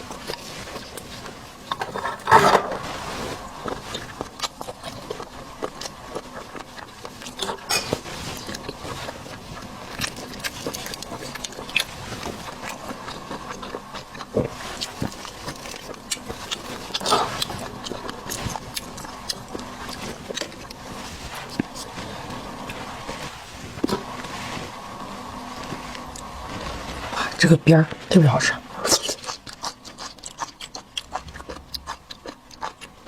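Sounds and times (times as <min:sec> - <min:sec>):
chewing and slurping: 0:00.0 - 0:27.5, 0:28.7 - 0:33.0.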